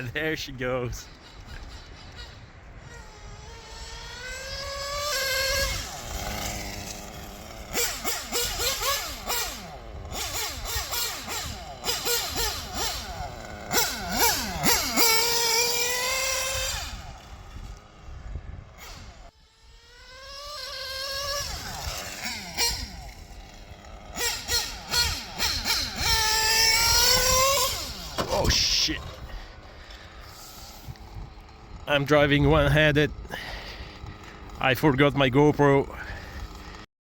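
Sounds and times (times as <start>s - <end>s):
nitro engine revving: 0.0s - 36.9s.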